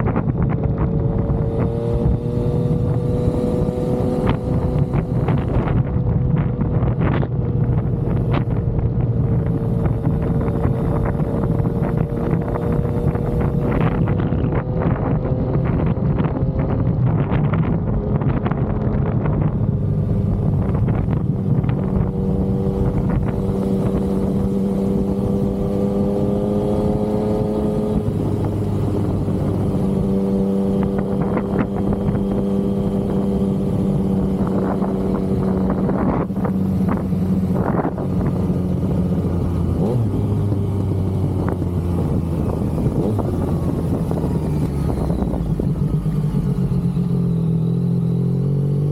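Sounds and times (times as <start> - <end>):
wind rush: 0.0 - 47.6
motorcycle engine cruising: 0.0 - 48.9.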